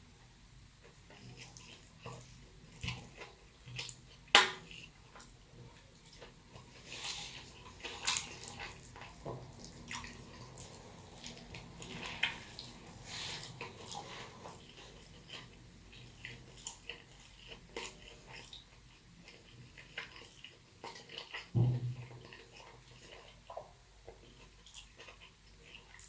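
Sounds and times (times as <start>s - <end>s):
person chewing: 1.0s - 26.0s.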